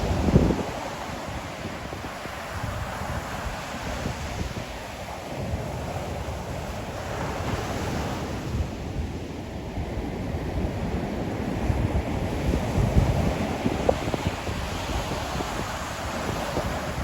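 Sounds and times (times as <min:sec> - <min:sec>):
ocean waves washing onto shore: 0:00.0 - 0:17.0
wind buffeting microphone: 0:00.0 - 0:17.0.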